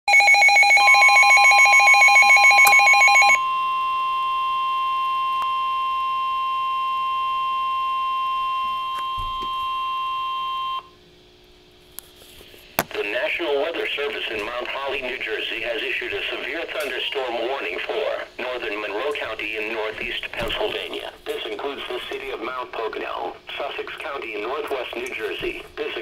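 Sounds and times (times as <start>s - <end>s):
steady warning alarm tone: 0.1s - 11.0s, 13.1s - 22.7s, 23.5s - 26.0s.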